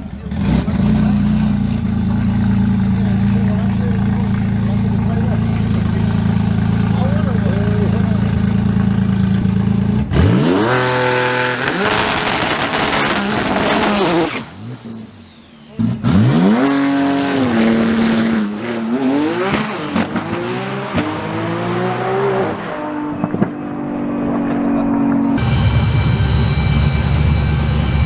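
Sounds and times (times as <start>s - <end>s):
truck engine revving hard: 0.0s - 28.0s.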